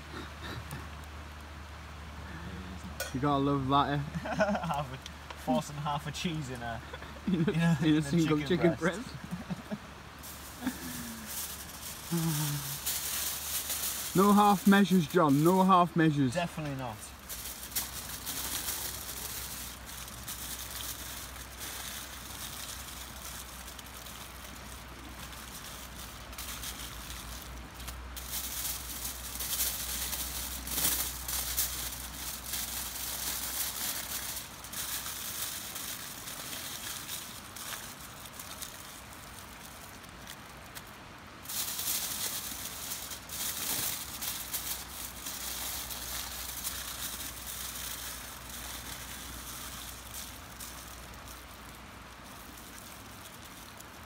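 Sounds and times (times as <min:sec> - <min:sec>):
aluminium foil crinkling: 0:03.0 - 0:54.0.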